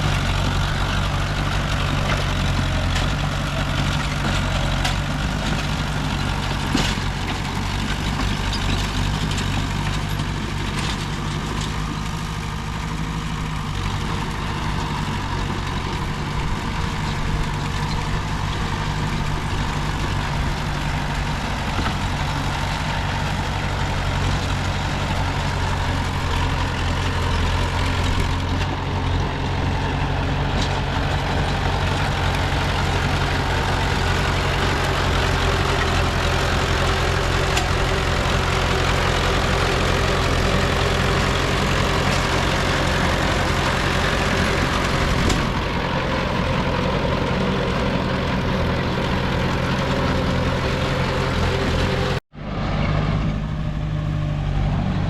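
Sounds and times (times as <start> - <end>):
diesel engines rumbling: 0.0 - 55.0.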